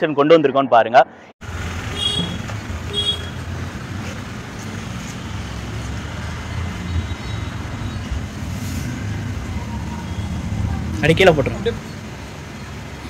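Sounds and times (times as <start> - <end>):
road traffic rumble: 1.4 - 13.0.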